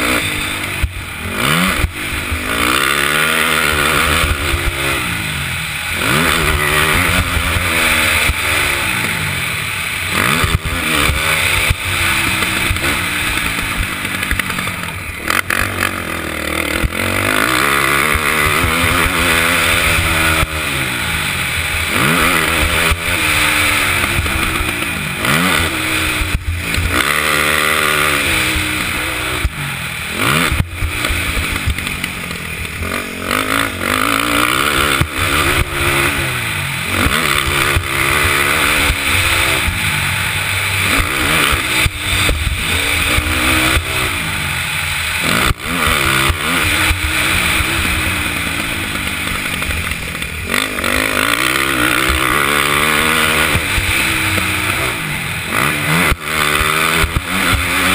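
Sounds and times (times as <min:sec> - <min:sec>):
quad engine revving: 0:00.0 - 0:57.9.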